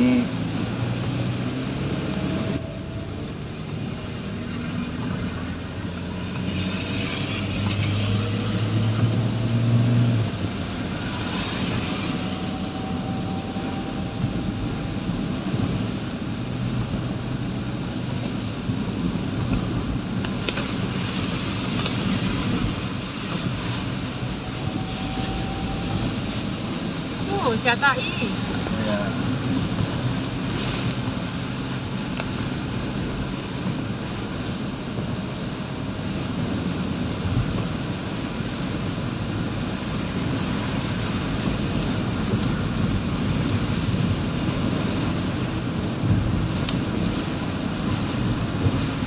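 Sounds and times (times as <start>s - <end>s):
vehicle engine hum: 0.0s - 49.0s.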